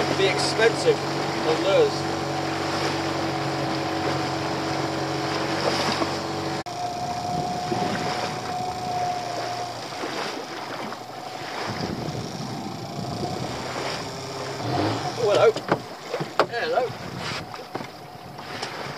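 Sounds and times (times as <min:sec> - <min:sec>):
boat engine running: 0:00.0 - 0:18.9
water rushing along hull: 0:00.0 - 0:18.9
wind on microphone: 0:00.0 - 0:18.9.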